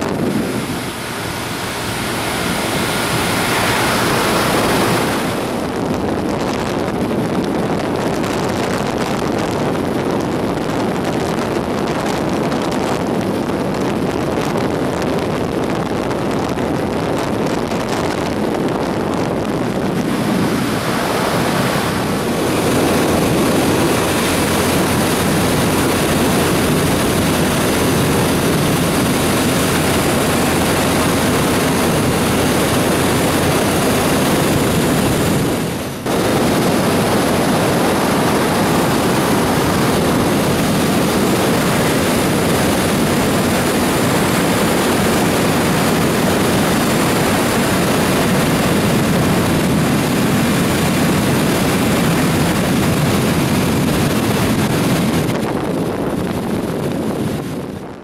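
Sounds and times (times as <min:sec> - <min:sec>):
motorcycle engine: 0:00.0 - 0:56.8
wind rushing over microphone: 0:00.0 - 0:58.0.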